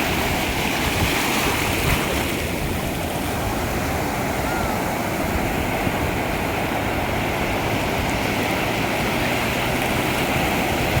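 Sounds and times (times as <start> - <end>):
ocean waves washing ashore: 0.0 - 11.0.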